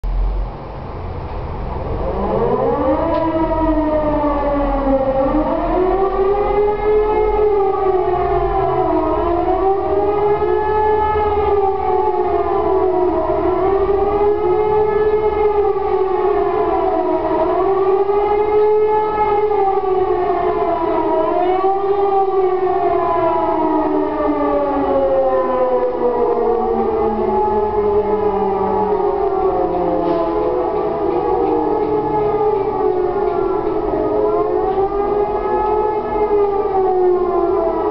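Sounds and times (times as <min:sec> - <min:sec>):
siren wailing: 0:01.7 - 0:37.9.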